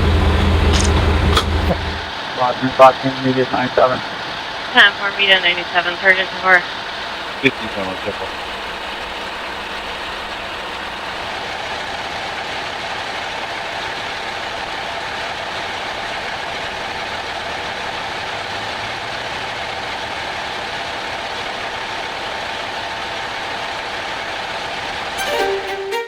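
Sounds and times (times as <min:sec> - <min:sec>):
vehicle engine idling: 0:00.0 - 0:25.3.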